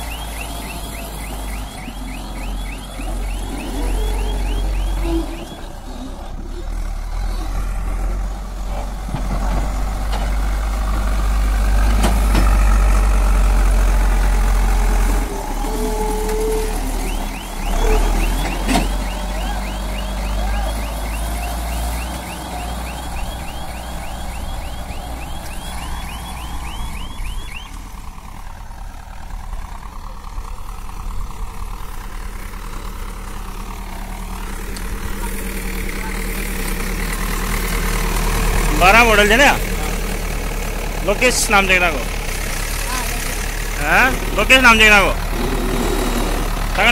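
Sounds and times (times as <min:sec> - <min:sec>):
diesel engine running hard: 0:00.0 - 0:46.9.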